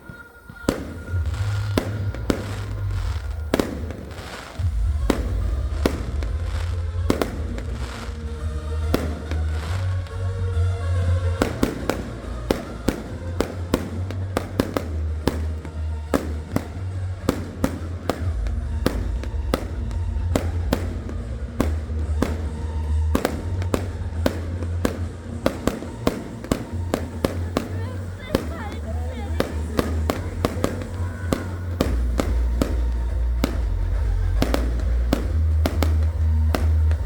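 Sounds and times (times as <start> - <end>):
fireworks bangs: 0.0 - 37.0
loud music with heavy bass: 0.7 - 37.0.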